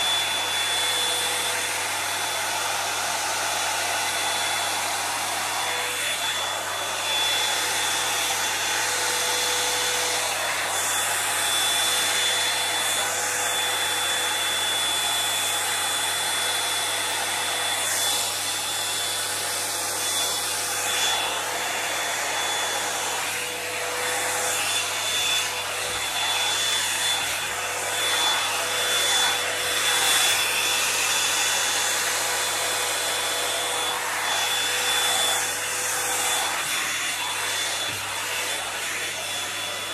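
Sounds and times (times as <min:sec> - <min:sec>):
hot-air brush blowing: 0:00.0 - 0:39.9.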